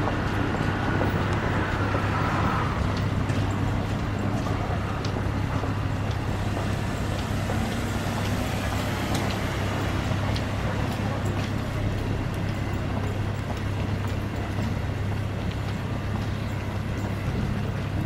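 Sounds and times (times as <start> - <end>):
low engine rumble: 0.0 - 18.0
road traffic noise: 0.0 - 18.0.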